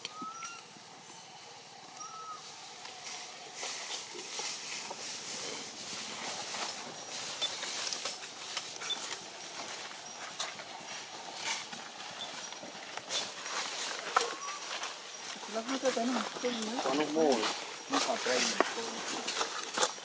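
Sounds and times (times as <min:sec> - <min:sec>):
dry leaves and twigs crackling: 0:02.0 - 0:20.0.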